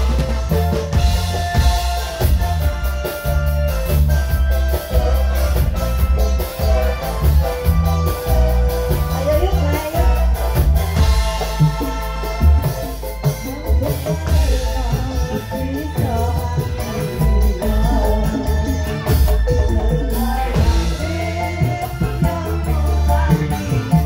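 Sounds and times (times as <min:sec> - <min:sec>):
live band playing dance song: 0:00.0 - 0:24.0
people singing into microphones: 0:04.4 - 0:24.0.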